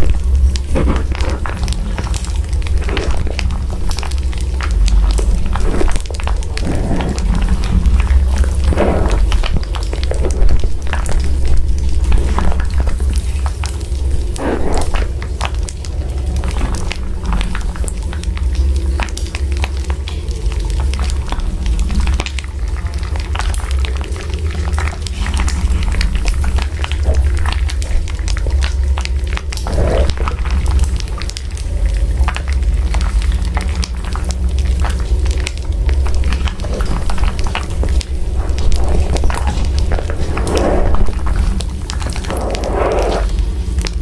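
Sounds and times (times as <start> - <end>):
crackling and popping: 0.0 - 44.0
low rumble: 0.0 - 44.0.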